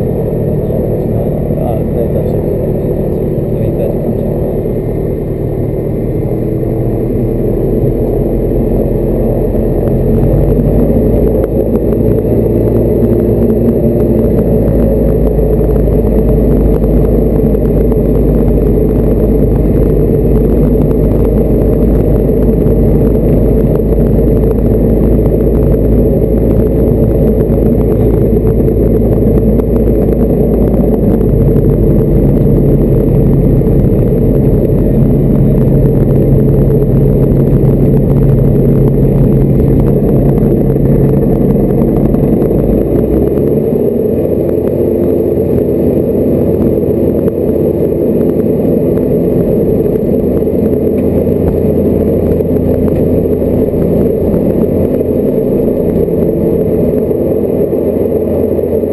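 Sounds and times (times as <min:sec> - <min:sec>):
light aircraft engine and propeller: 0:00.0 - 0:58.9.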